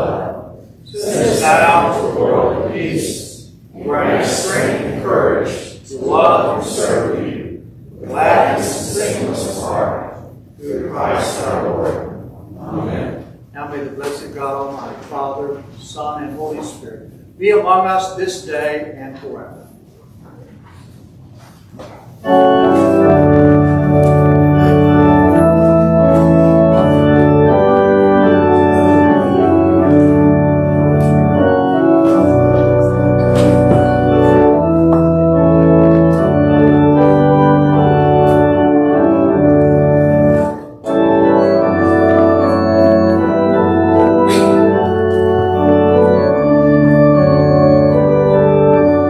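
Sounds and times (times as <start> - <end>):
church organ playing chords: 0.0 - 13.7, 22.2 - 49.0.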